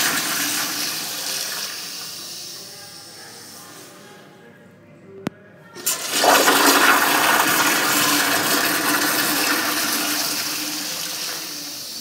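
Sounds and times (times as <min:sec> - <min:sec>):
toilet flushing water rush: 0:00.0 - 0:03.6, 0:05.8 - 0:12.0.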